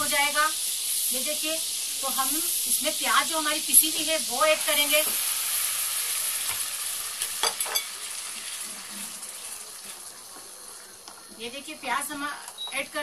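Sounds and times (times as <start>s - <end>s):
onion paste sizzling in oil: 0.0s - 13.0s.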